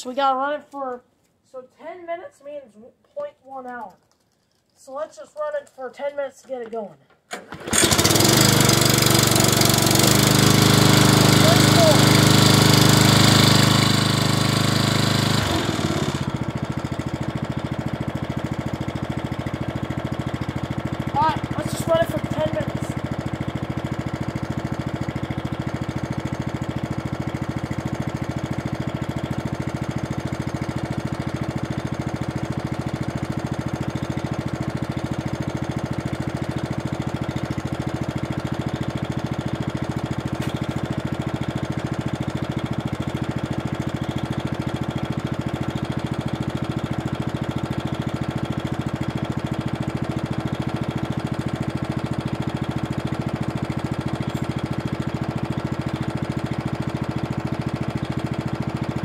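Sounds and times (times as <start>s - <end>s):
lawn mower engine running: 7.3s - 59.0s.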